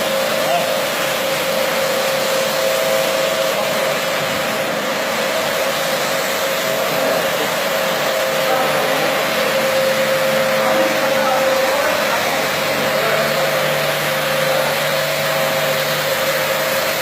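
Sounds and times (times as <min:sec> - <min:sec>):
carpet-washing machine running: 0:00.0 - 0:17.0.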